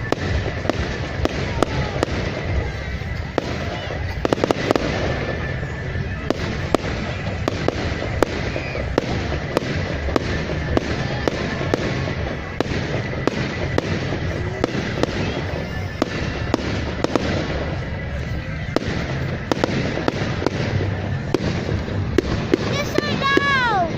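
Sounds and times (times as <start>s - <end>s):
fireworks crackling and banging: 0.0s - 23.9s.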